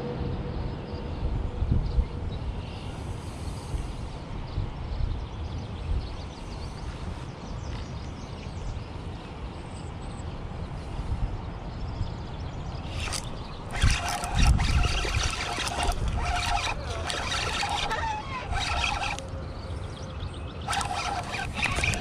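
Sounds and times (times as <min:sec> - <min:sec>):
steady low outdoor rumble: 0:00.0 - 0:22.0.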